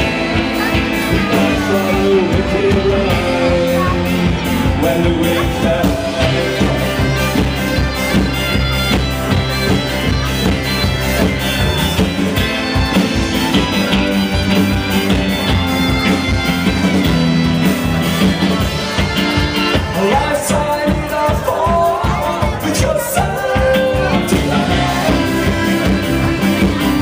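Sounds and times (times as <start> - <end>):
live folk band playing: 0.0 - 27.0.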